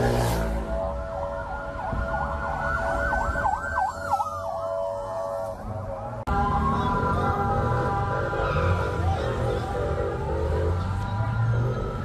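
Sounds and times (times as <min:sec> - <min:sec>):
ambulance sirens wailing: 0:00.0 - 0:12.0
vehicle engine rumble: 0:00.0 - 0:12.0
siren yelp: 0:00.2 - 0:12.0.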